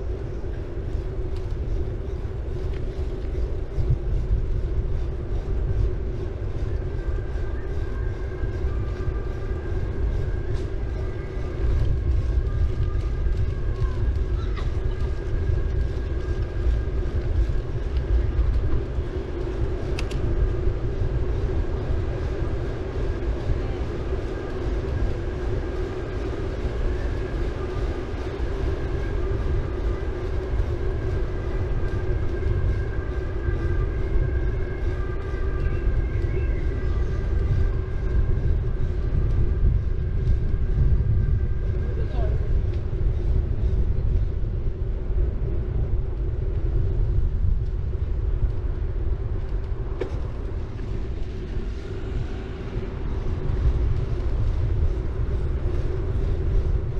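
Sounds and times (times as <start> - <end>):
bicycle tyres rolling on road: 0.0 - 56.9
faint thin whine: 0.0 - 56.9
wind on microphone: 0.0 - 56.9.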